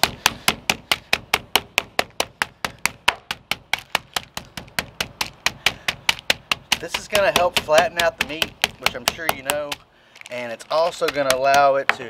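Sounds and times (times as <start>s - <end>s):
mallet pounding meat on board: 0.0s - 9.8s, 10.9s - 12.0s.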